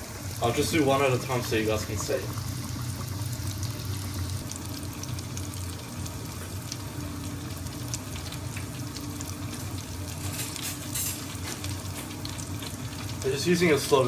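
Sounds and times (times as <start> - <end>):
food deep-frying in hot oil: 0.0 - 14.0.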